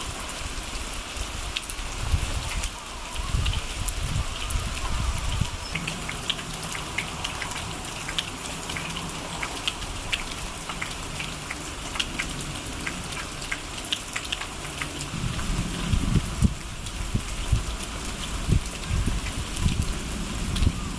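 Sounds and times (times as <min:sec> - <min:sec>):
raindrops pattering: 0:00.0 - 0:20.9
steady rain: 0:00.0 - 0:20.9.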